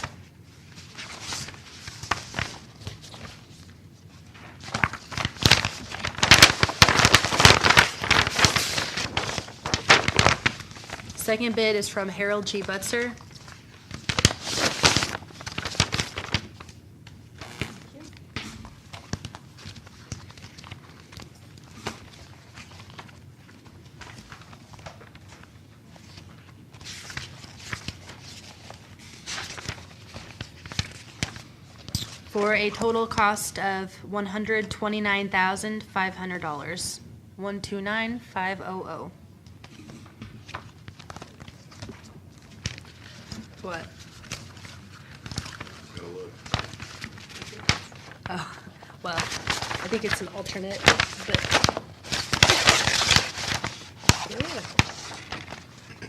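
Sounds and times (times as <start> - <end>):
paper crackling and rustling: 0.0 - 33.4, 39.5 - 55.9.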